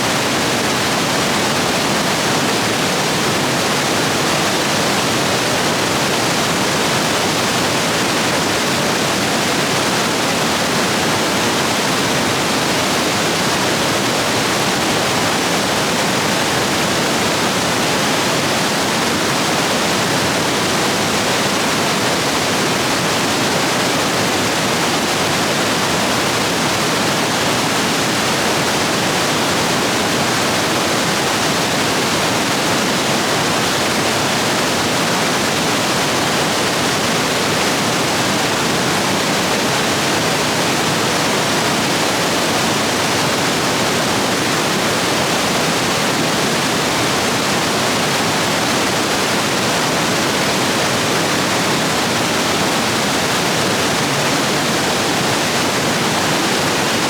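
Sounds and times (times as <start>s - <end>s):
stream rapids rushing: 0.0s - 57.0s.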